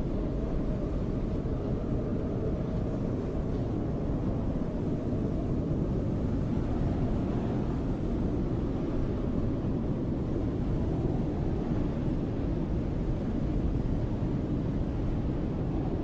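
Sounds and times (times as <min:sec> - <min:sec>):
snowstorm wind blowing: 0:00.0 - 0:16.0.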